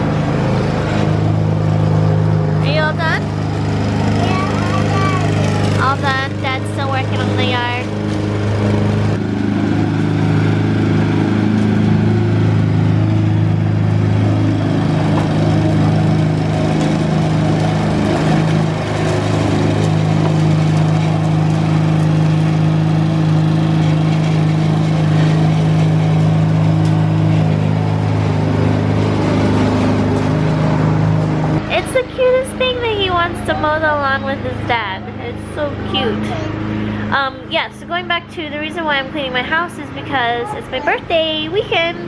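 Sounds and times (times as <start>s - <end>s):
lawn mower engine cutting grass: 0.0s - 42.0s.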